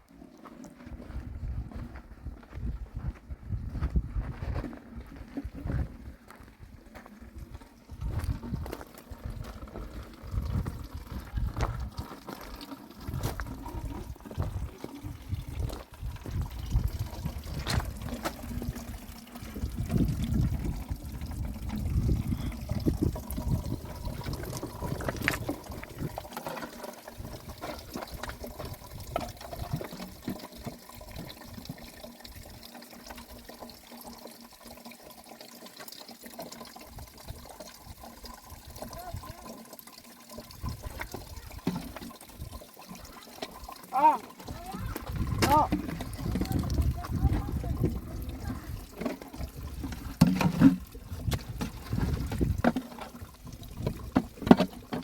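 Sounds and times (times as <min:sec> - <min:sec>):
water trickling: 0:05.0 - 0:55.0.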